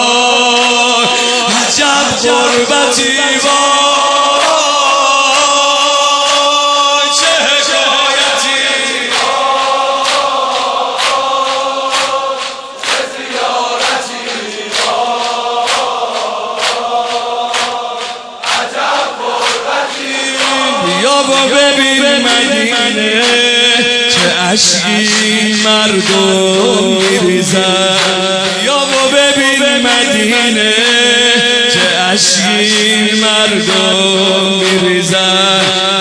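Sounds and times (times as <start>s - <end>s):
rhythmic chest-beating slaps: 0.0s - 36.0s
voices chanting in unison: 0.0s - 36.0s.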